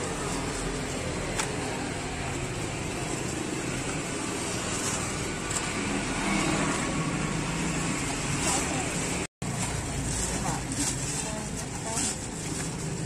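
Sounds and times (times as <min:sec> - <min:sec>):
low traffic hum: 0:00.0 - 0:13.0.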